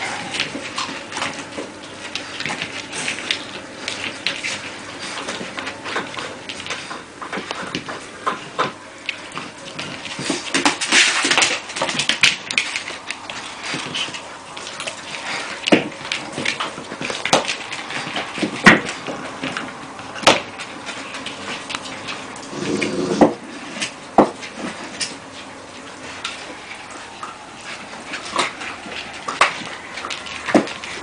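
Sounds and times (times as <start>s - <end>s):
chew bone scraping on floor: 0.0s - 31.0s.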